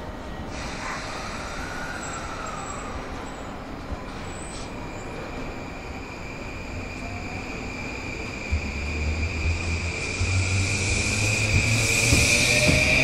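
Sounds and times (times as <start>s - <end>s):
electric train rumble: 0.0s - 13.0s
high whine from train motors: 0.0s - 13.0s.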